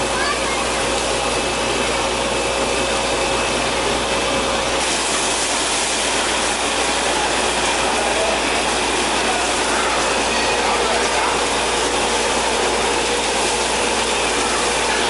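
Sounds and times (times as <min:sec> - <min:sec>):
air compressor running: 0:00.0 - 0:15.0
water gushing from pipe: 0:00.0 - 0:15.0.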